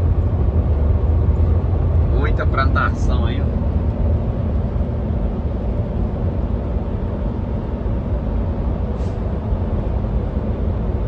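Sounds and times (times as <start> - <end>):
road rumble: 0.0 - 11.0
truck engine drone: 0.0 - 11.0.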